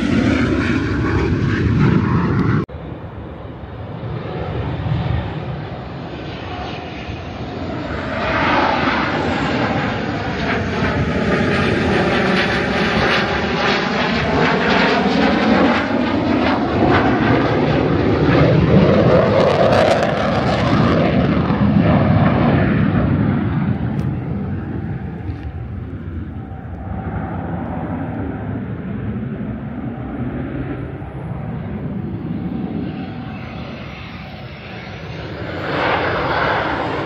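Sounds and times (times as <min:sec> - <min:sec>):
fighter jet flying overhead: 0:00.0 - 0:37.0.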